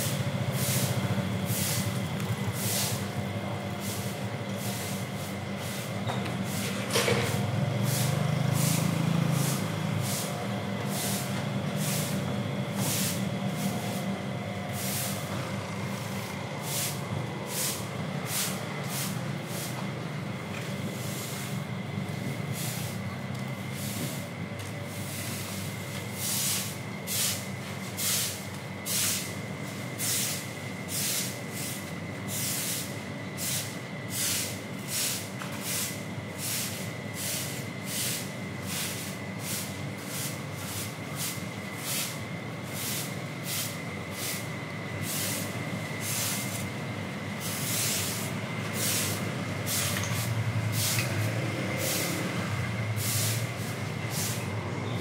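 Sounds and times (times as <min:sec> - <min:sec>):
broom sweeping wet floor: 0:00.0 - 0:03.1, 0:03.8 - 0:12.2, 0:12.8 - 0:14.1, 0:14.7 - 0:15.3, 0:16.0 - 0:19.8, 0:20.9 - 0:21.6, 0:22.2 - 0:23.0, 0:23.7 - 0:24.3, 0:24.9 - 0:46.8, 0:47.4 - 0:52.3, 0:52.9 - 0:54.5.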